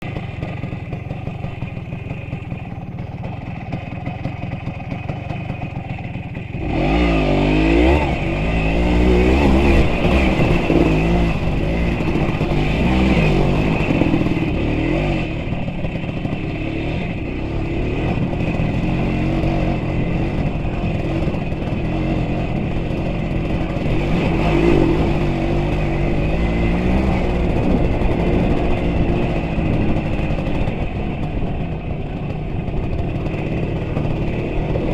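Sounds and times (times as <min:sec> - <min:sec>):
small vehicle engine revving: 0:06.5 - 0:34.9.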